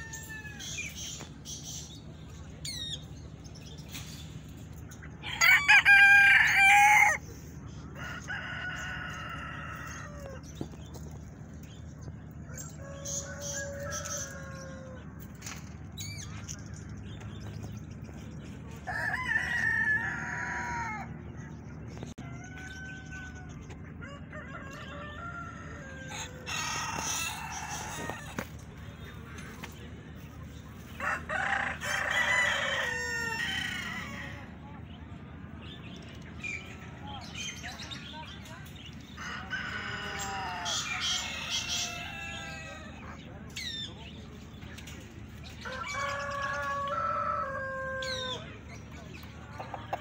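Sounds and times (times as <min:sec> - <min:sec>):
roosters crowing: 0:00.0 - 0:02.9, 0:04.4 - 0:50.0.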